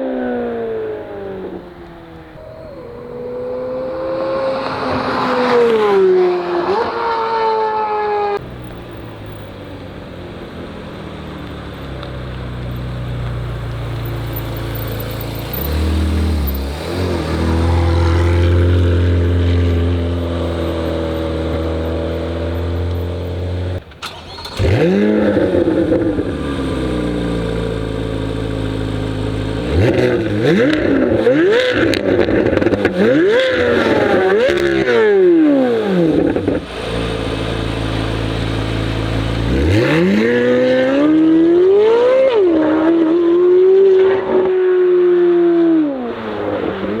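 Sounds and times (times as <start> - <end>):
sports car engine revving: 0.0 - 47.0.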